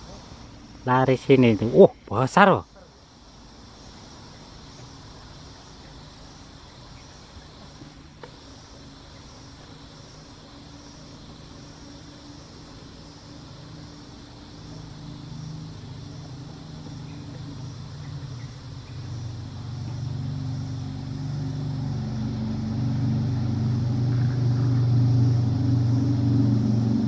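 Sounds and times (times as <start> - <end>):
small engine humming: 4.0 - 27.0.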